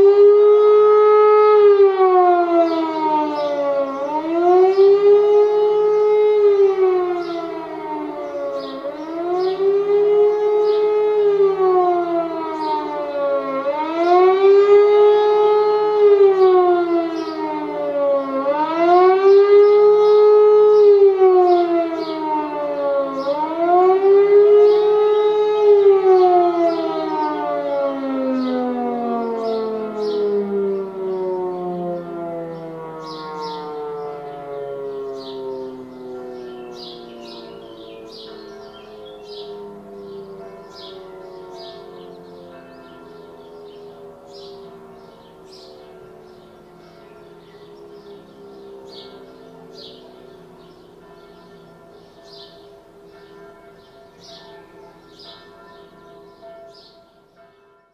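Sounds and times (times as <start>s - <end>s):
rising and falling siren howl: 0.0s - 53.4s.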